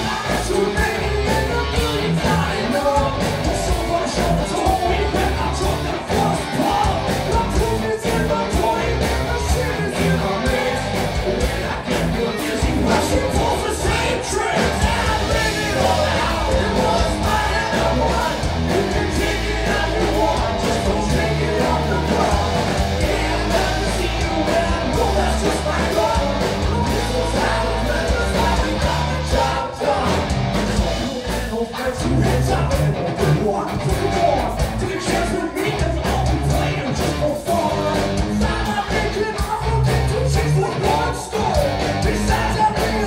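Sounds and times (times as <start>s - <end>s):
bass guitar: 0.0s - 43.0s
drums: 0.0s - 43.0s
electric guitar: 0.0s - 43.0s
person singing and yelling: 0.0s - 43.0s.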